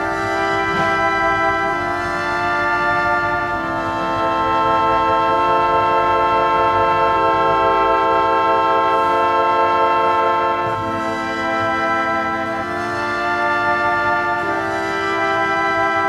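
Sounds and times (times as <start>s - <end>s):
sustained chord music: 0.0s - 16.0s.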